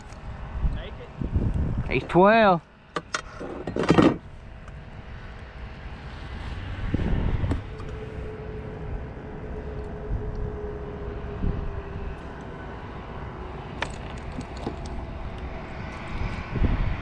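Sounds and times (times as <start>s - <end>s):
wind rumbling on microphone: 0.0s - 2.4s, 3.2s - 17.0s.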